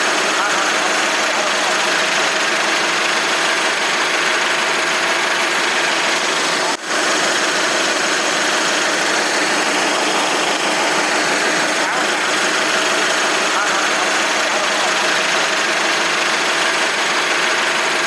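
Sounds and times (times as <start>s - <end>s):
factory machinery running: 0.0s - 18.0s.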